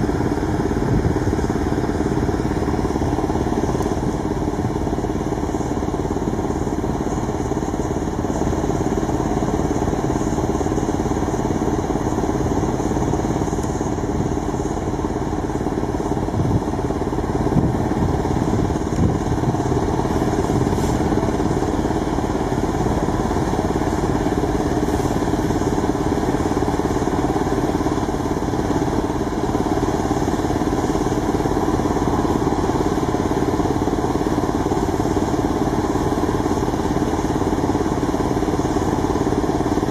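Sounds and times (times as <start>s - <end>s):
large engine running steadily: 0.0s - 39.9s.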